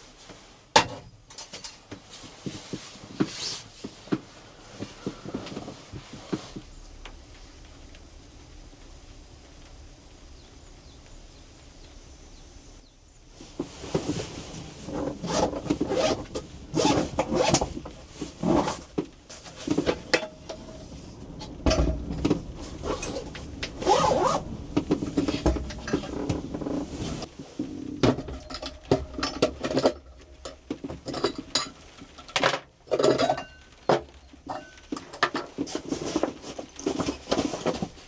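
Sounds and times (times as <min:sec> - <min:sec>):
objects rustling and knocking: 0:00.0 - 0:08.8, 0:13.2 - 0:38.0
quiet steady hum: 0:00.0 - 0:38.0.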